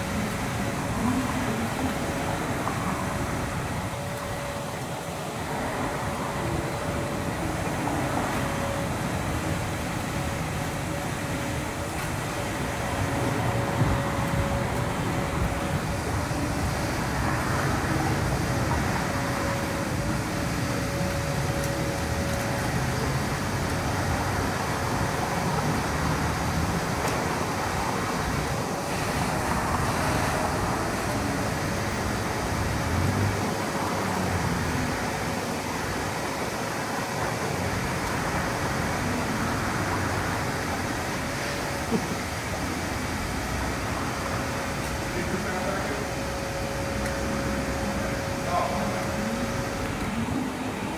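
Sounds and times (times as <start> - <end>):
faint steady hum: 0.0 - 50.9
outdoor background noise: 0.0 - 50.9.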